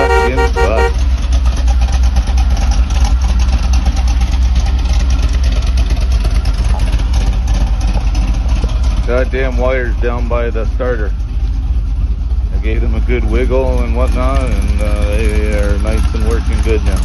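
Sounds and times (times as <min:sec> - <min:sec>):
van engine running: 0:00.0 - 0:17.0.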